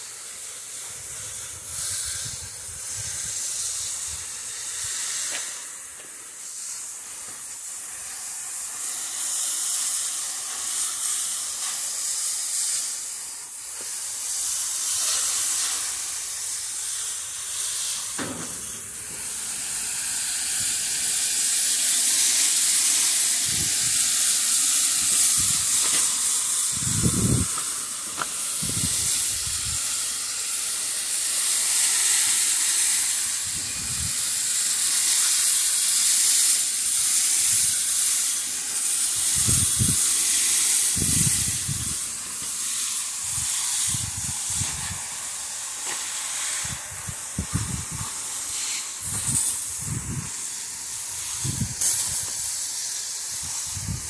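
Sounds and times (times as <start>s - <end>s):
hose water spraying on metal fins: 0.0s - 54.0s.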